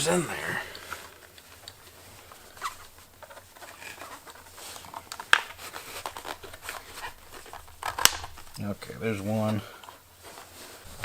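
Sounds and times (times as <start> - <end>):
plastic rustling: 0.0 - 11.0.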